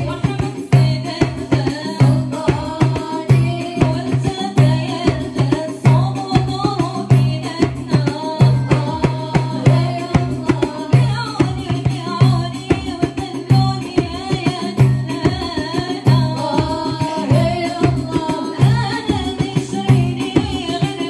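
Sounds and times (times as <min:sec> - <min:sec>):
hand drum strokes: 0:00.0 - 0:21.0
woman singing: 0:00.0 - 0:21.0.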